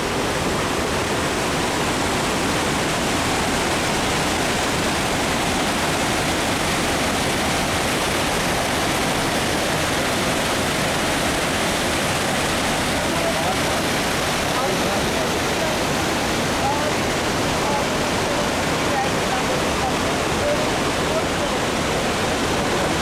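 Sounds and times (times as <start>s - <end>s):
water pouring over rock ledge: 0.2s - 23.0s.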